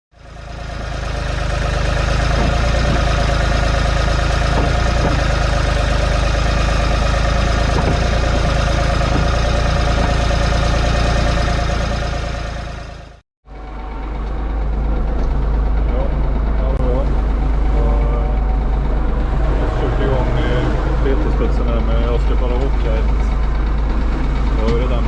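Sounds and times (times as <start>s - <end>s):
tractor engine running: 0.1s - 25.0s.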